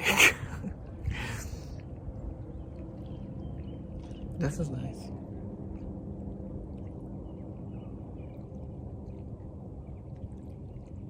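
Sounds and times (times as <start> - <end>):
faint hum: 0.0 - 11.0
light water sounds: 0.0 - 11.0
low rumble: 0.0 - 11.0.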